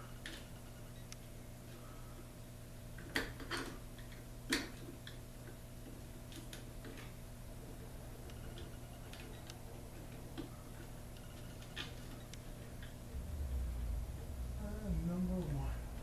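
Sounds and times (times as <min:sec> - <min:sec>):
steady low hum: 0:00.0 - 0:03.0, 0:03.8 - 0:16.0.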